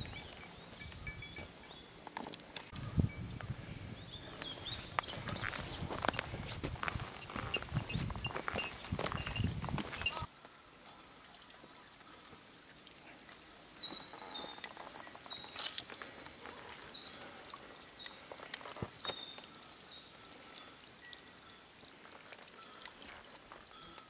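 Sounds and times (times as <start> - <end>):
songbird singing trills: 0.0 - 2.0, 2.8 - 6.2, 7.2 - 11.6, 12.2 - 21.7.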